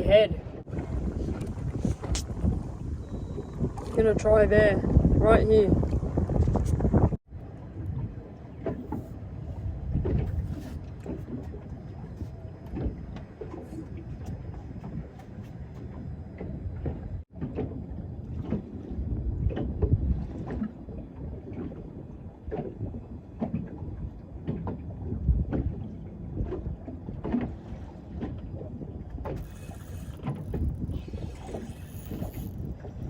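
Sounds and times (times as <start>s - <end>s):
water slapping against boat hull: 0.6s - 7.2s, 7.9s - 9.2s, 9.8s - 33.0s.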